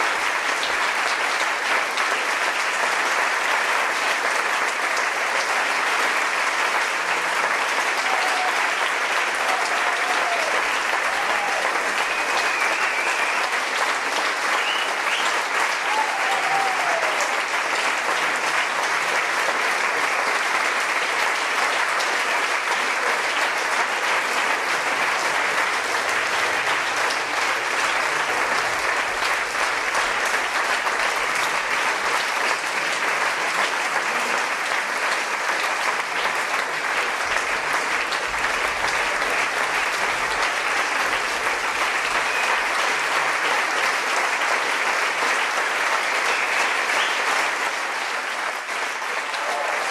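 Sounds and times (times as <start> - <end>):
audience applauding: 0.0 - 49.9.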